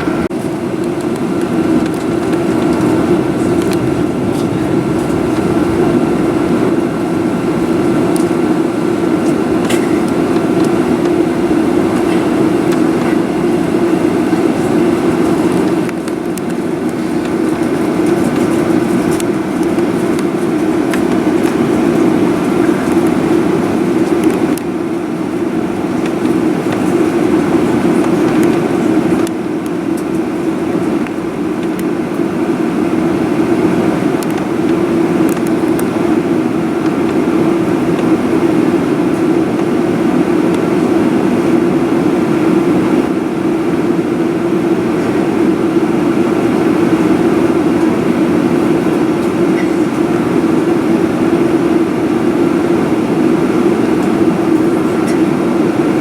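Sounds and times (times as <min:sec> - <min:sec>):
airplane cabin engine hum: 0:00.0 - 0:56.0.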